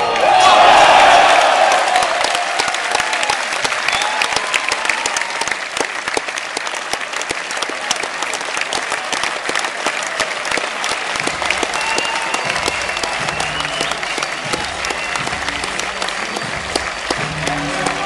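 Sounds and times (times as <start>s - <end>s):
audience clapping: 0.0s - 18.0s.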